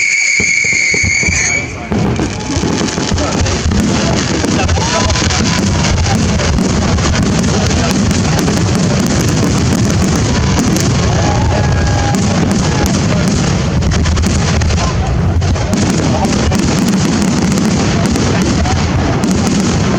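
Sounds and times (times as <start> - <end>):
faint fireworks whistles: 0.0 - 19.9
fireworks crackling and banging: 0.0 - 19.9
deep rumble of booms: 1.0 - 19.9.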